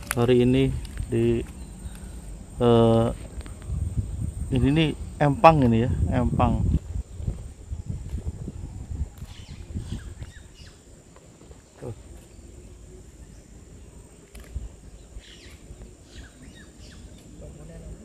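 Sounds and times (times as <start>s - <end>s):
birds chirping: 0.0s - 18.0s
faint insect drone: 0.0s - 18.0s
low rumble of handling or wind: 0.0s - 18.0s.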